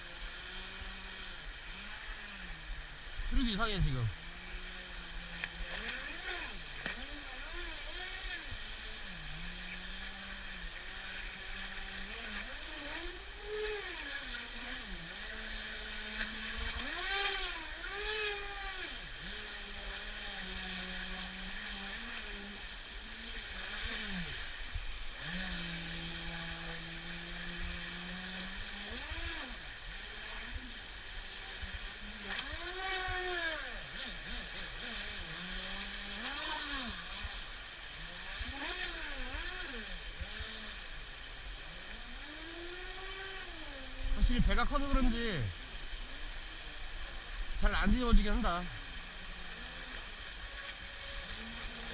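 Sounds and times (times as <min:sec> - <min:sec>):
model boat motor whining: 0:00.0 - 0:51.9.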